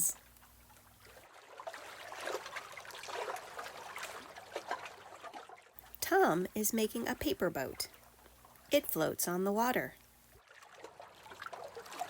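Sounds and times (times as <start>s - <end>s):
lake waves lapping against dock: 0.0s - 9.8s, 10.4s - 12.0s.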